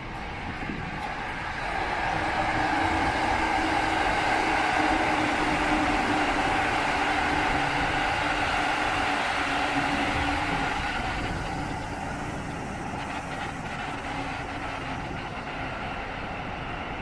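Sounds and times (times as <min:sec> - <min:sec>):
electric train passing: 0:00.0 - 0:17.0
motor whine: 0:00.0 - 0:17.0.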